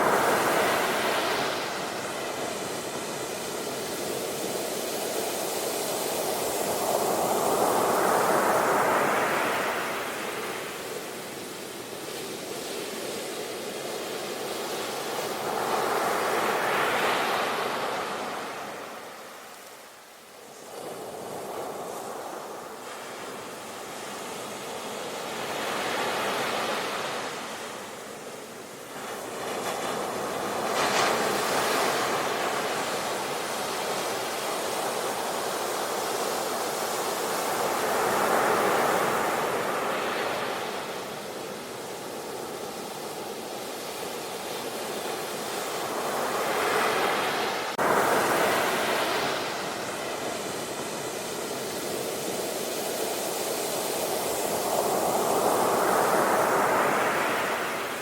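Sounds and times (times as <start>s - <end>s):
sea waves washing ashore: 0.0s - 58.0s.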